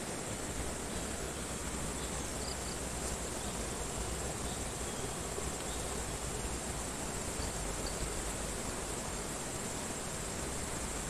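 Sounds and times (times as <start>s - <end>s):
river flowing hiss: 0.0s - 11.0s.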